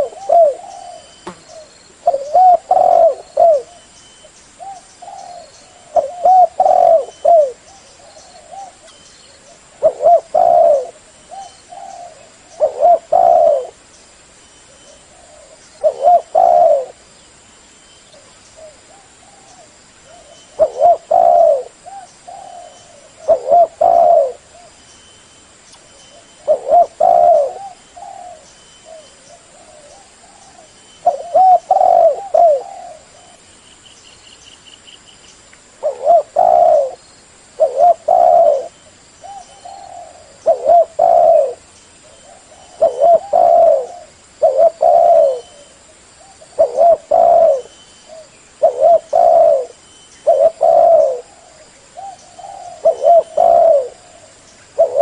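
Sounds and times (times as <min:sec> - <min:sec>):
dove cooing: 0:00.0 - 0:03.9, 0:04.6 - 0:13.8, 0:14.7 - 0:17.0, 0:18.2 - 0:24.8, 0:25.9 - 0:33.4, 0:35.8 - 0:37.0, 0:37.6 - 0:55.0.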